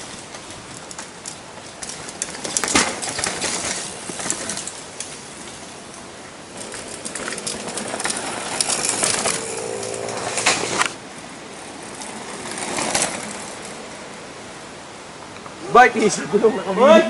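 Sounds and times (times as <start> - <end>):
tyre noise: 0.0 - 13.8
mountain bike rattling over dirt: 0.0 - 14.2.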